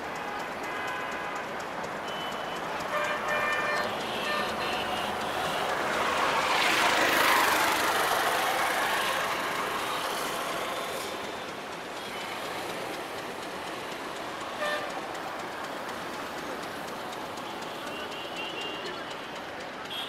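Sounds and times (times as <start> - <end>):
passenger train rolling past: 0.0 - 20.0.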